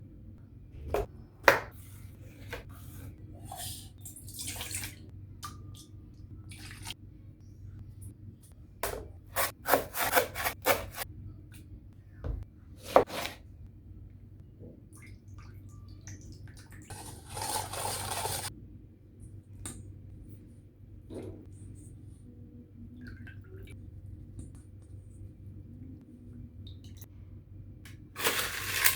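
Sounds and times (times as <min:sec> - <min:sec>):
steady low hum: 0:00.0 - 0:17.1, 0:18.4 - 0:28.2.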